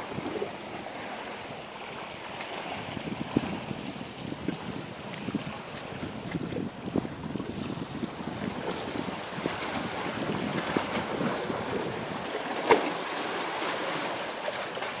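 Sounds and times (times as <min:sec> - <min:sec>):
wind buffeting microphone: 0:00.0 - 0:14.2
water lapping against rocks: 0:00.0 - 0:15.0.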